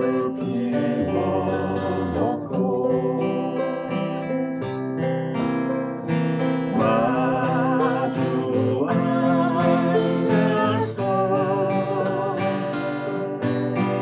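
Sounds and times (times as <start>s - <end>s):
person singing with vibrato: 0.0s - 4.4s, 6.7s - 14.0s
acoustic guitar playing: 0.0s - 14.0s.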